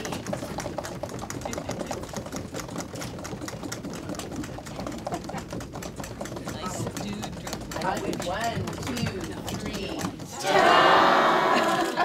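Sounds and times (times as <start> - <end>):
people drumming on tables: 0.0 - 12.0.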